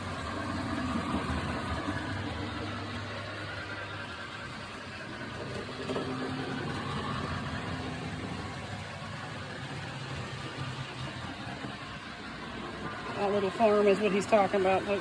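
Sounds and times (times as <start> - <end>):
model train humming: 0.0 - 15.0.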